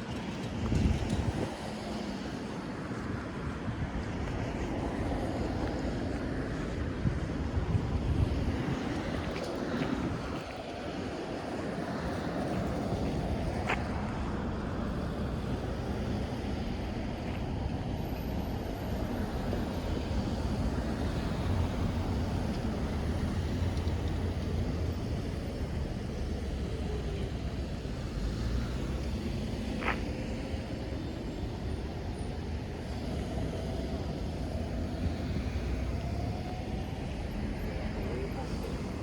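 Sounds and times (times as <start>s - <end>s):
passing cars: 0.0s - 39.0s.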